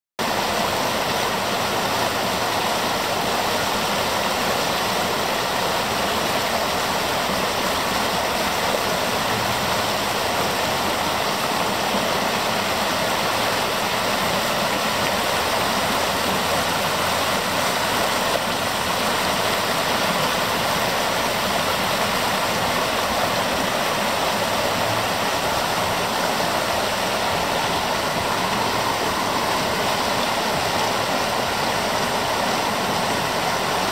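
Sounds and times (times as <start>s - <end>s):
water rushing over rocks: 0.2s - 33.9s.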